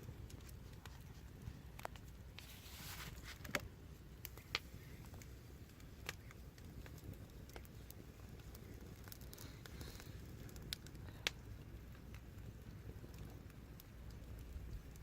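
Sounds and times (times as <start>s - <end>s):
fire pops and ticks: 0.0s - 15.0s
low rumble of burning: 0.0s - 15.0s.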